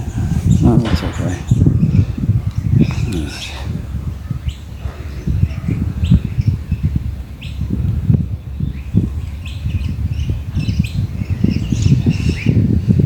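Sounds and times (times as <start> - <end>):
birds chirping: 0.0 - 13.0
low rumbling on microphone: 0.0 - 13.0.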